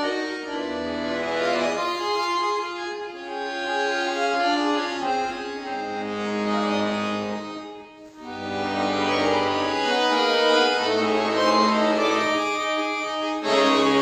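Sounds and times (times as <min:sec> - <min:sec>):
accordion playing chords: 0:00.0 - 0:14.0.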